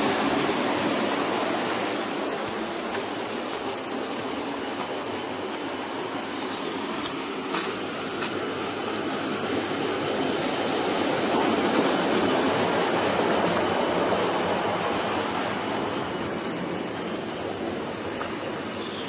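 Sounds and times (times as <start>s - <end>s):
water pouring over dam: 0.0s - 15.7s.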